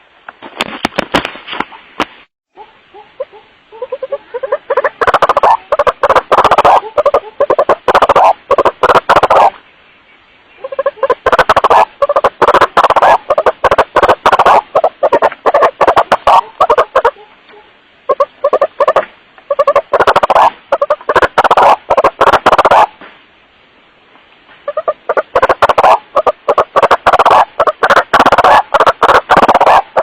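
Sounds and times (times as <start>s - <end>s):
waterhen calling harshly: 2.6s - 9.6s, 10.4s - 23.0s, 24.6s - 30.0s.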